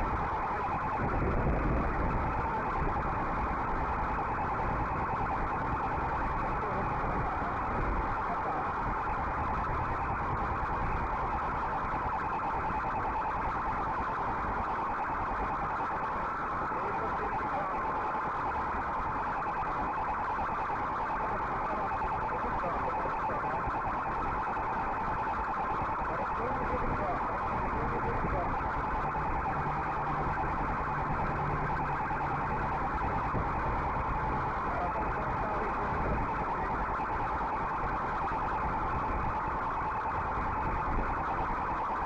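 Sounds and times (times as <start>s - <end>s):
electronic siren warbling: 0.0s - 42.0s.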